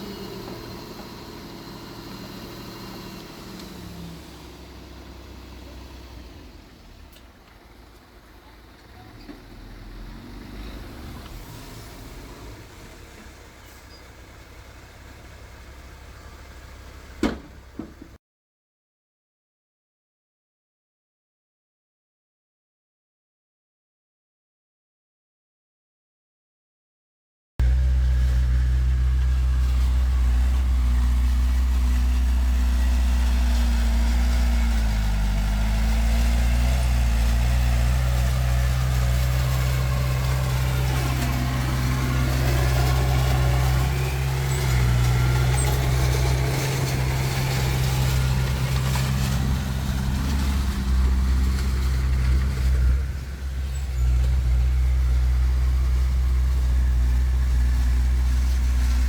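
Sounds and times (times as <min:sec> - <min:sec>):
heavy diesel engine running: 0:00.0 - 0:18.2, 0:27.6 - 0:59.0.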